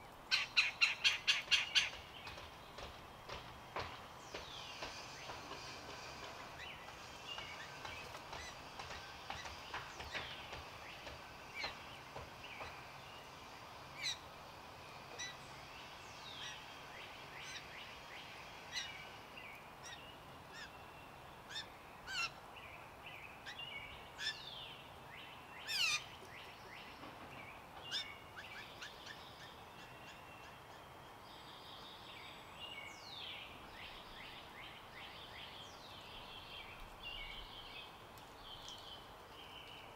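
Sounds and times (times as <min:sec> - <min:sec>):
outdoor background hiss: 0:00.0 - 0:39.9
songbirds chirping: 0:00.0 - 0:39.9.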